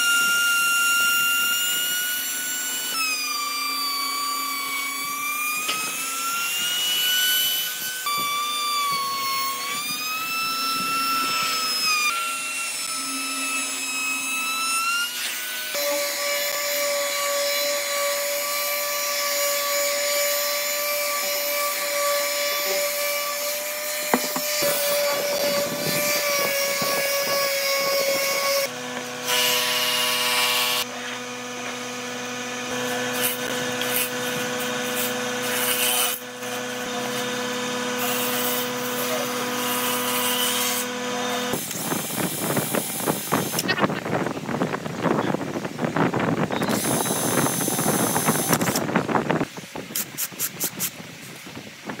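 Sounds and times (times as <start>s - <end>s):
router motor whining: 0.0s - 50.7s
palm sander on wood: 0.0s - 52.0s.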